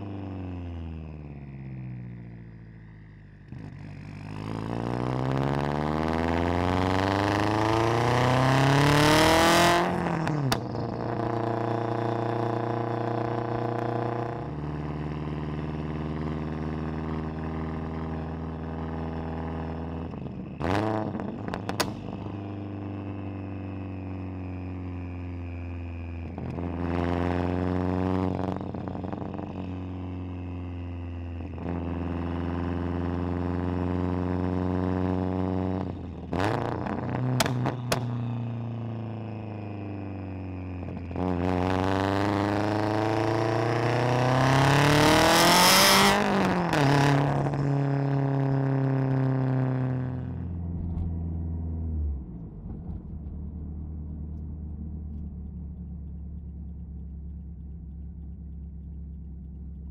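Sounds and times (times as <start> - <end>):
car exhaust under acceleration: 0.0 - 59.9.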